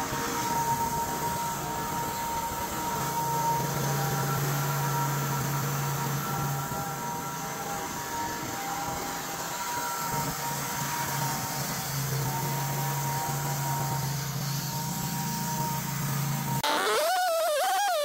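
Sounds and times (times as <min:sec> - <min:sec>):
band sawmill sawing wood: 0:00.0 - 0:18.0.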